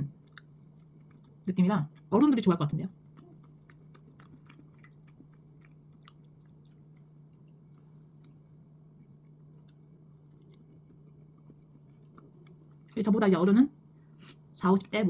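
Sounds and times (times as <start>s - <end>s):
low electrical hum: 0.0s - 15.0s
faint chewing of bread: 0.1s - 2.3s, 2.9s - 13.2s.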